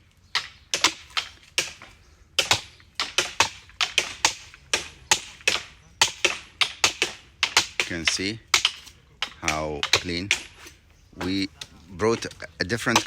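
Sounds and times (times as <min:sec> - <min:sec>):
blade chopping tree bark: 0:00.2 - 0:13.0.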